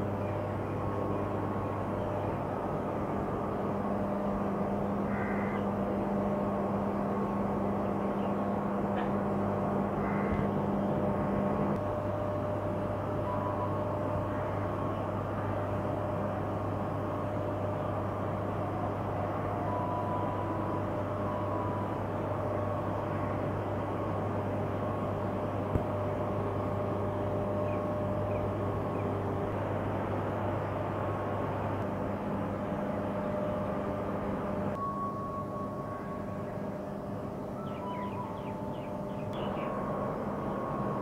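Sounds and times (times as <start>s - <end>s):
machinery low hum: 0.0s - 41.0s.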